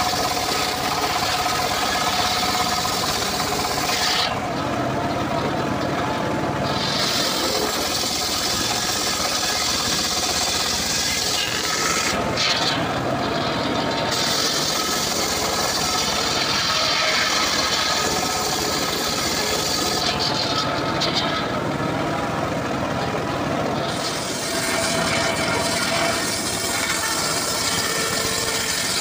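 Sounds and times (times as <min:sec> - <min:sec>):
circular saw cutting wood: 0:00.0 - 0:29.0.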